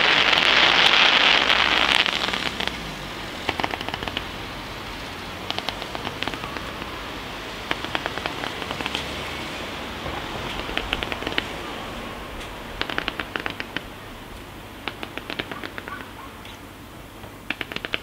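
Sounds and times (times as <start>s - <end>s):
fireworks hiss: 0.0s - 18.0s
fireworks popping: 0.0s - 18.0s.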